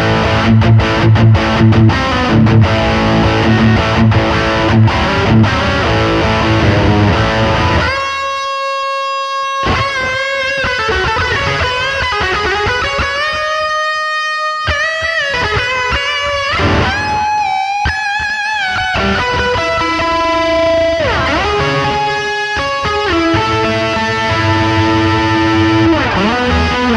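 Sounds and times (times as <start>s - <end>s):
overdriven electric guitar: 0.0s - 26.9s.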